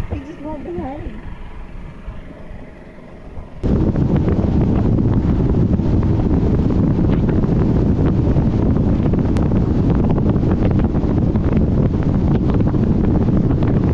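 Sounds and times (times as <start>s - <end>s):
boat rushing over water: 0.0s - 13.9s
wind buffeting microphone: 0.0s - 13.9s.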